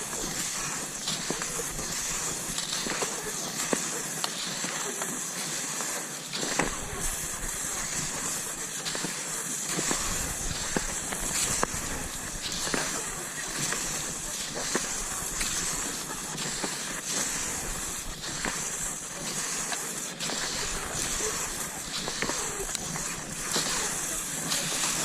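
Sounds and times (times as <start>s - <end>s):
ski poles clicking: 0.0s - 25.0s
skis swishing over snow: 0.0s - 25.0s.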